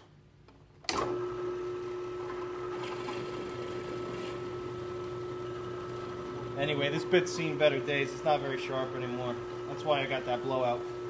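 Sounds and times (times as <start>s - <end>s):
drill press motor whining: 0.9s - 11.0s.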